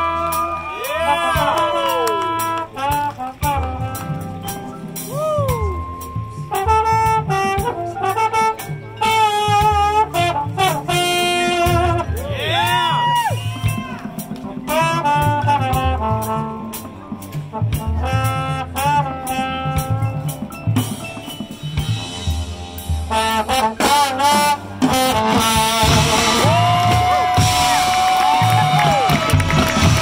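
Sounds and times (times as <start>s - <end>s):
trombone solo with sliding notes: 0.0s - 30.0s.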